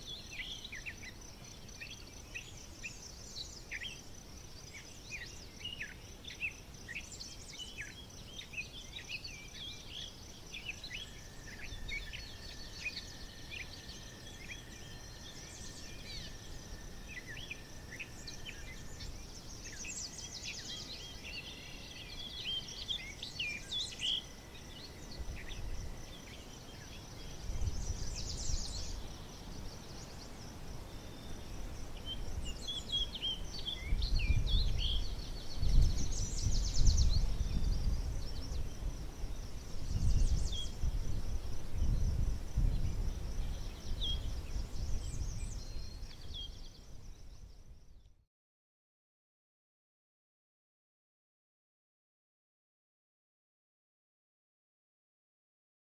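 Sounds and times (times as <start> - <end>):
small birds chirping: 0.0 - 48.2.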